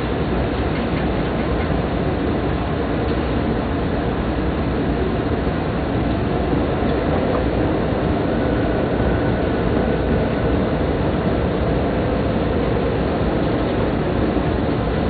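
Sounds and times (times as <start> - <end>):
train cabin rumble and hiss: 0.0 - 15.0.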